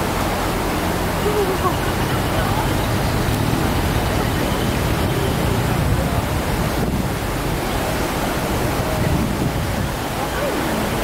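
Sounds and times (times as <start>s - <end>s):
wind buffeting microphone: 0.0s - 11.0s
faint voices of passers-by: 0.6s - 11.0s.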